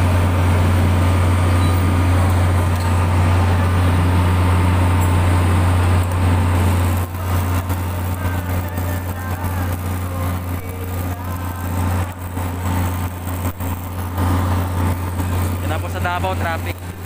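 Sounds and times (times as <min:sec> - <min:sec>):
steady low machine drone: 0:00.0 - 0:17.0.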